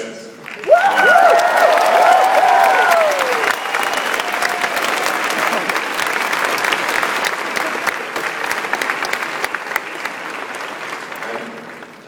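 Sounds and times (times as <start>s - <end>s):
large audience applauding: 0.4s - 12.0s.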